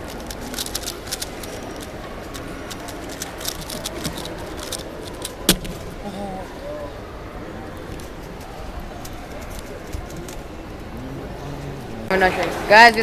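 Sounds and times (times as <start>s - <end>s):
background murmur: 0.0s - 13.0s.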